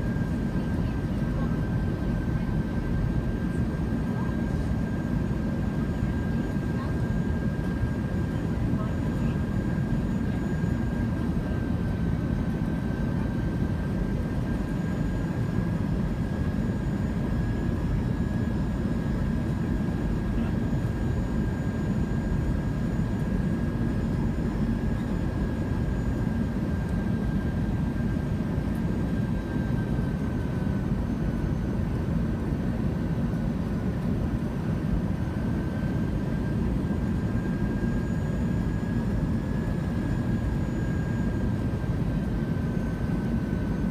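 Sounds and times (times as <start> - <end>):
engine whine: 0.0 - 43.9
jet engine rumble and airflow: 0.0 - 43.9.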